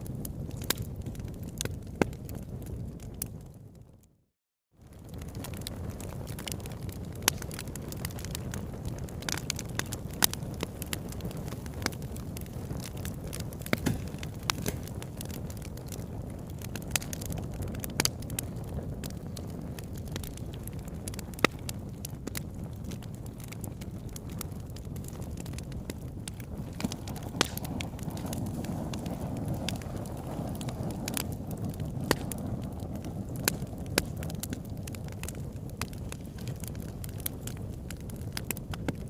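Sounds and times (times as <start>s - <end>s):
fire crackling and popping: 0.0s - 4.1s, 4.8s - 39.0s.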